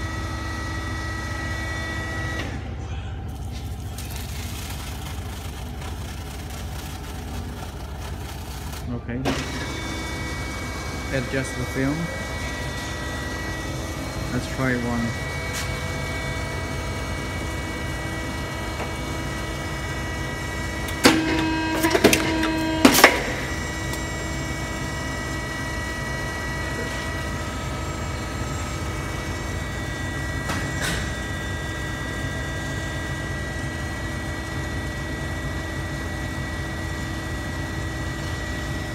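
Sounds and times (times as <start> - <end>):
machinery hum: 0.0 - 38.9.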